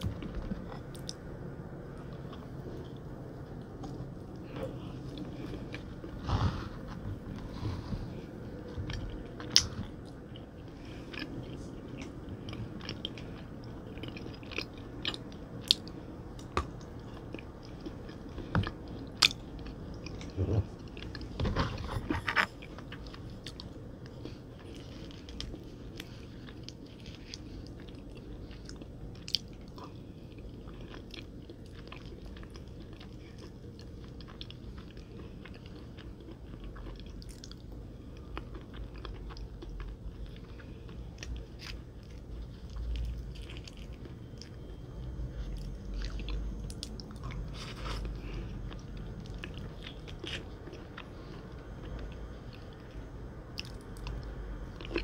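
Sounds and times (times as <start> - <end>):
soft chewing: 0.0 - 55.0.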